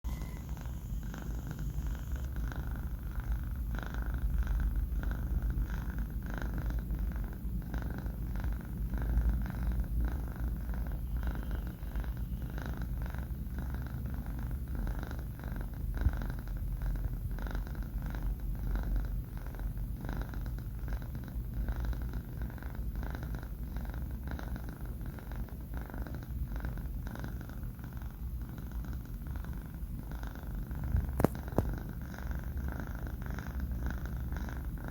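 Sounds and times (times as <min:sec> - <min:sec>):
kitten purring: 0:00.0 - 0:34.9.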